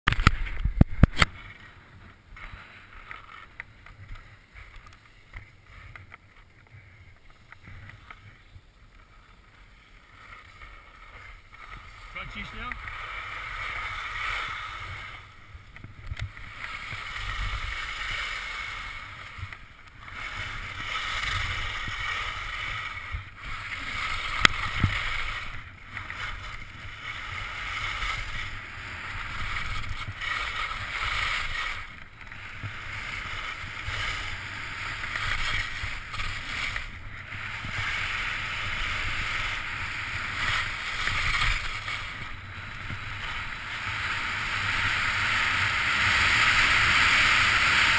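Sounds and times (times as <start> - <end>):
skis scraping over snow: 0.1 - 47.9
wind rumbling on microphone: 0.1 - 47.9.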